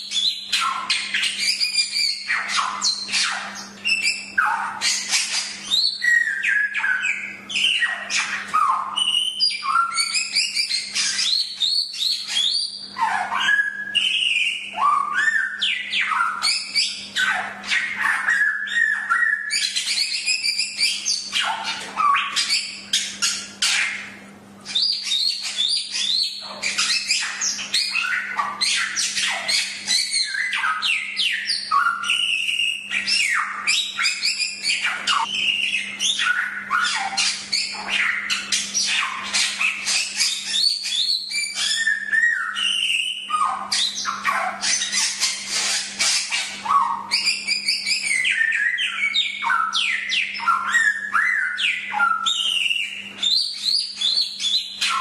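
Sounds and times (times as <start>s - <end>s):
bird singing chirps and whistles: 0.0s - 55.0s.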